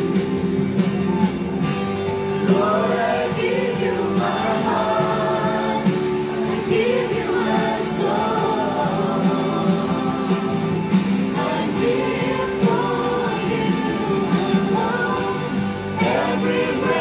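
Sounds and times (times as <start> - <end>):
guitar accompaniment: 0.0 - 17.0
group singing a hymn: 2.4 - 17.0.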